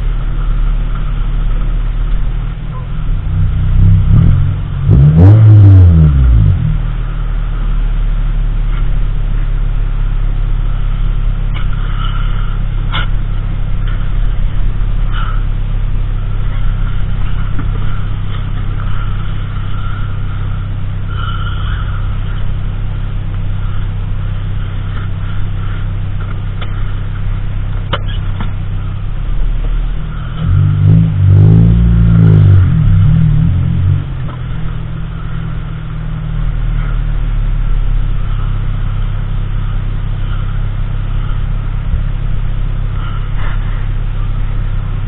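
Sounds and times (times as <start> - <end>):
car engine and road drone: 0.0 - 45.0.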